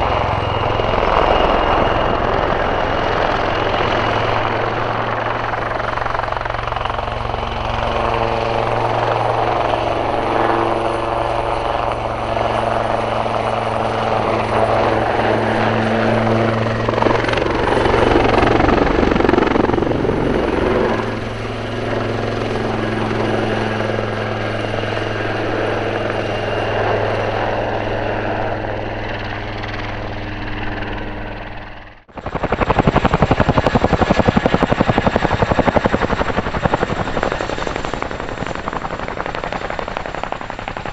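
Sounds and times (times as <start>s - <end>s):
helicopter flying past: 0.0s - 40.9s.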